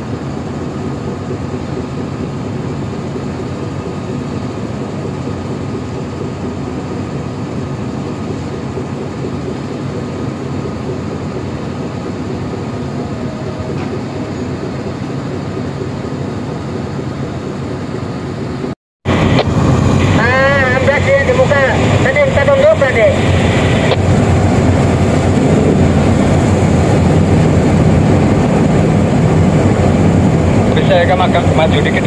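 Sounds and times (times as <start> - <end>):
boat diesel engine droning: 0.0 - 32.0.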